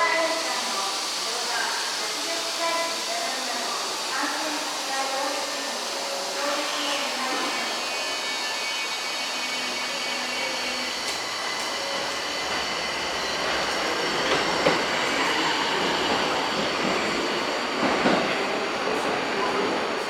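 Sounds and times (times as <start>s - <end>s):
subway train electric whine: 0.0s - 20.0s.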